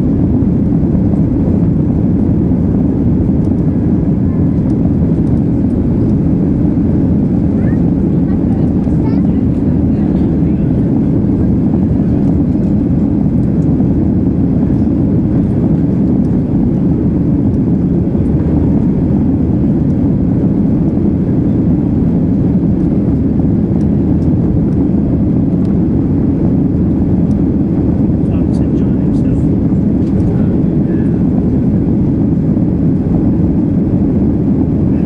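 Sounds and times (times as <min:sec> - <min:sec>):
jet engines rumbling in cabin: 0:00.0 - 0:35.0.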